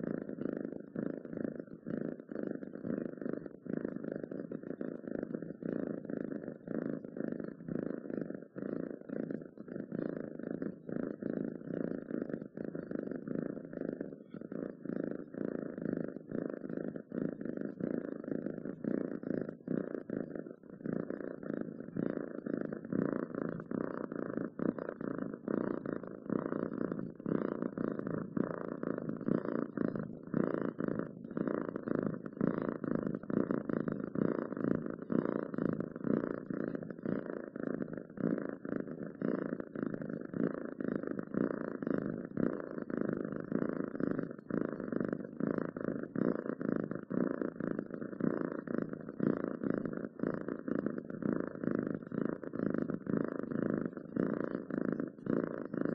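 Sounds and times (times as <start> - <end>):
cats purring: 0.0 - 55.9.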